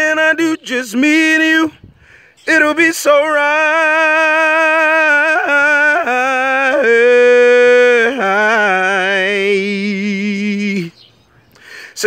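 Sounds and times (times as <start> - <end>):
man singing unaccompanied: 0.0 - 11.2, 11.8 - 12.0.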